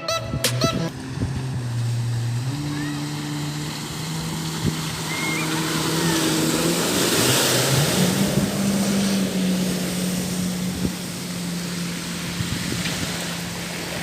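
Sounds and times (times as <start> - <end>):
jet ski engine drone: 0.0 - 14.0
water and wind rushing: 0.0 - 14.0.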